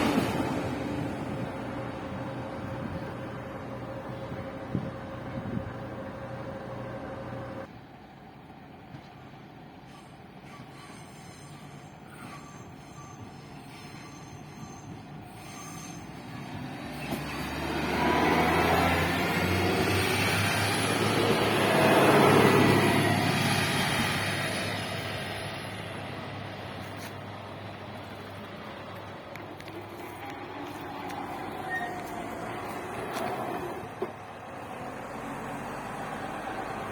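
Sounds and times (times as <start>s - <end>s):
train engine approaching: 0.0s - 36.9s.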